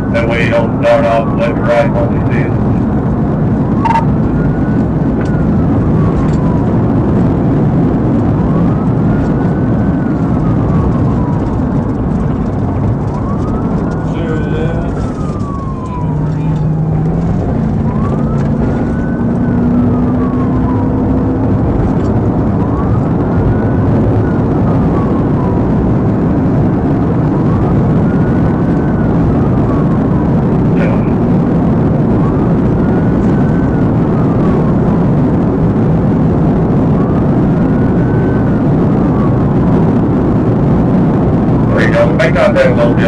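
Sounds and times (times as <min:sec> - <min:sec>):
car engine and road noise: 0:00.0 - 0:43.0
police siren wailing: 0:00.0 - 0:43.0.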